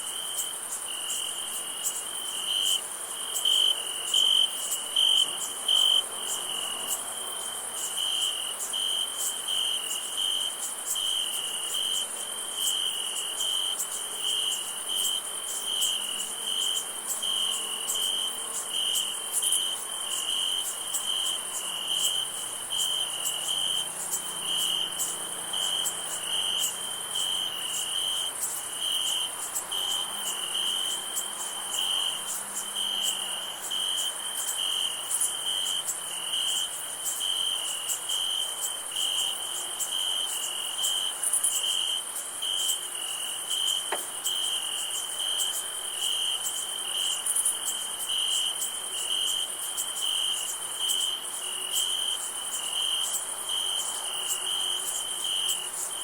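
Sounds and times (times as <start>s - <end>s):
crickets chirping: 0.0s - 56.0s
high-pitched insect trill: 0.0s - 56.0s.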